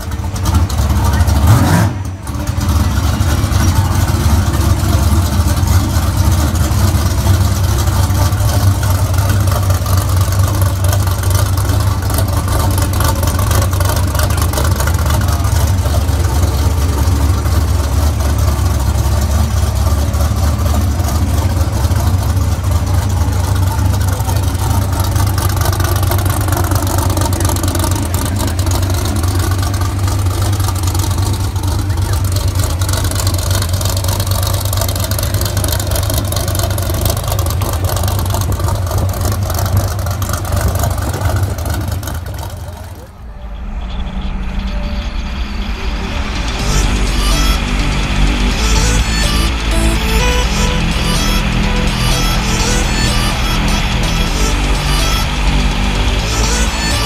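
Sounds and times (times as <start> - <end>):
pickup truck engine idling: 0.0 - 57.0.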